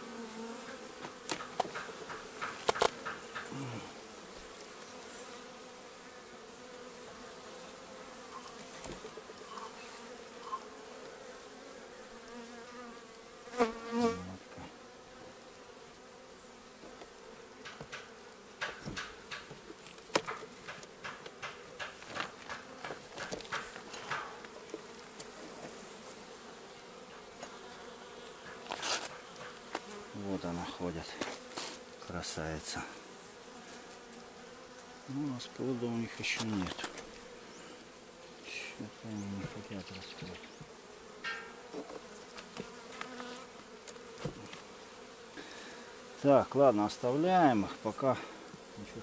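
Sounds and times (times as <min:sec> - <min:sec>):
honeybees buzzing: 0:00.0 - 0:49.0.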